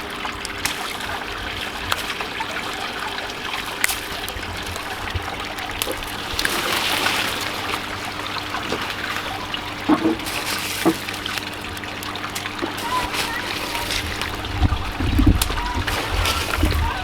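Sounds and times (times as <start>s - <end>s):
wash of water: 0.0s - 17.0s
water trickling: 0.0s - 17.0s.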